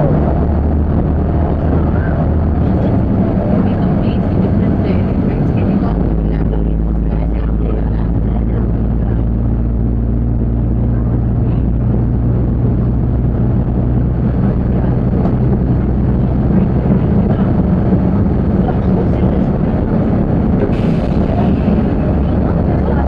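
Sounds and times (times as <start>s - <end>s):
railbus engine drone: 0.0s - 23.0s
wheels rumbling on track: 0.0s - 23.0s.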